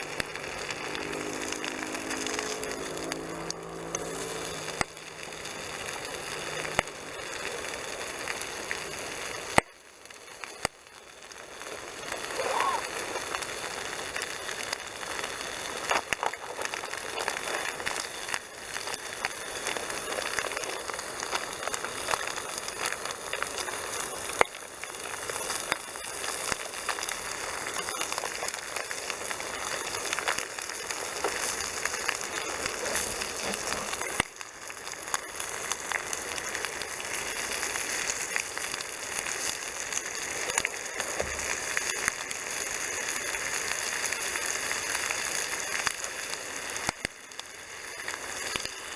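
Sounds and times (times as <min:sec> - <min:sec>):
bacon sizzling in a frying pan: 0:00.0 - 0:48.9
fat popping and crackling: 0:00.0 - 0:48.9.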